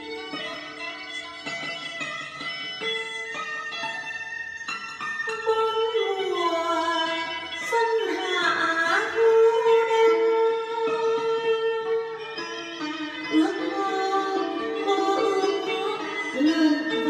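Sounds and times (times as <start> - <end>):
plucked string accompaniment: 0.0 - 17.0.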